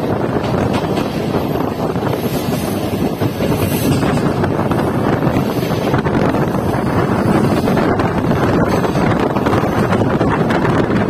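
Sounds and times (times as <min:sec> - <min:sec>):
train rumbling on track: 0:00.0 - 0:11.0
wind buffeting microphone: 0:00.0 - 0:11.0.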